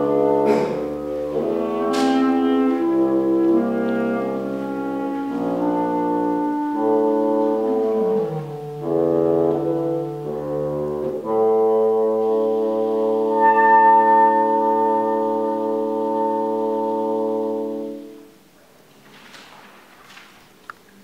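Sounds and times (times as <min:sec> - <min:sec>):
bassoon and clarinet duet: 0:00.0 - 0:18.4.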